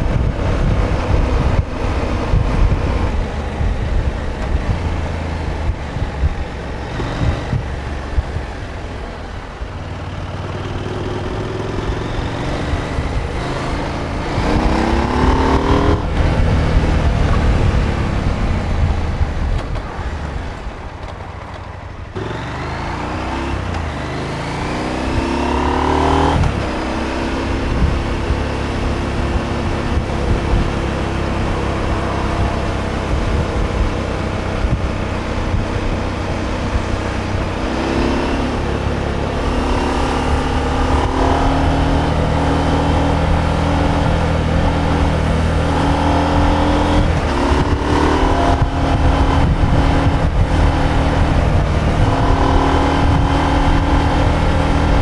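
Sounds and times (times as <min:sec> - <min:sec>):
motorcycle engine revving: 0:00.0 - 0:20.7, 0:21.9 - 0:55.0.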